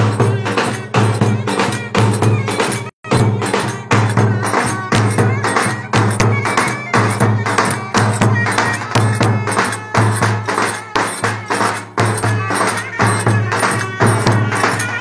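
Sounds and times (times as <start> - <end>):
percussion beat: 0.0 - 15.0
clarinet dance music: 0.2 - 15.0.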